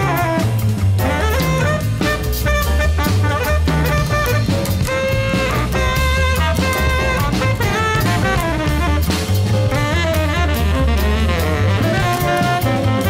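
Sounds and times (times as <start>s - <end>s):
drum kit: 0.0s - 13.0s
jazz saxophone melody: 0.0s - 13.0s.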